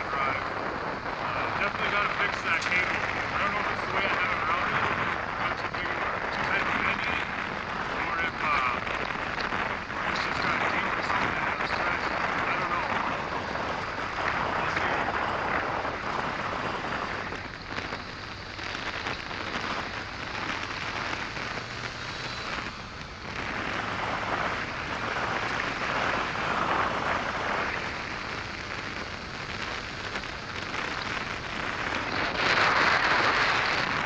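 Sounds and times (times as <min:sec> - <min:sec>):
diesel engine drone: 0:00.0 - 0:34.0
road noise: 0:00.0 - 0:34.0
wind rushing through cab: 0:00.0 - 0:34.0.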